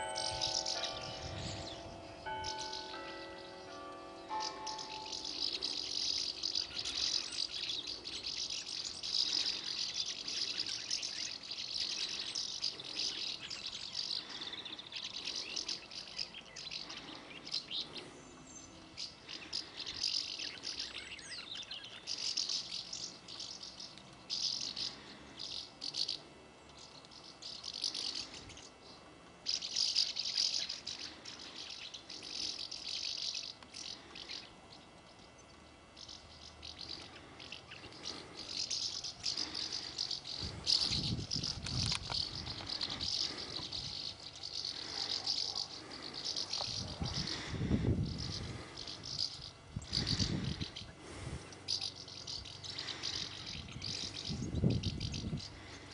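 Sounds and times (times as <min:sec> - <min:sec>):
flock of birds twittering: 0:00.0 - 0:55.9.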